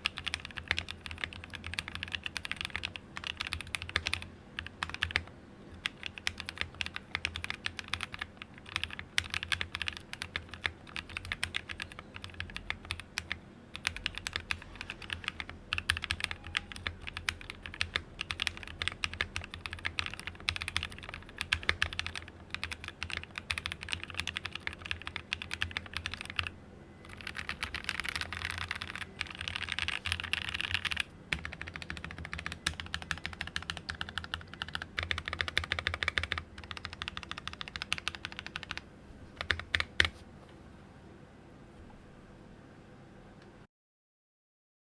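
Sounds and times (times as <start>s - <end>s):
fast mechanical keyboard typing: 0.0s - 38.8s, 39.4s - 40.1s.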